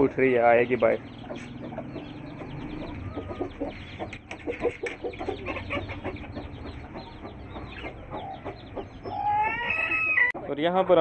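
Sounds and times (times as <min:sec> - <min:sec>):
chicks peeping: 0:00.0 - 0:11.0
hen clucking: 0:00.0 - 0:11.0.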